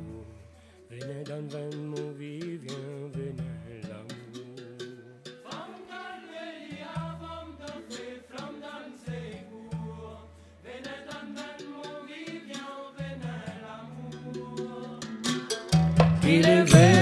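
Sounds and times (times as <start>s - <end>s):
song with singing and bass: 0.0s - 17.0s.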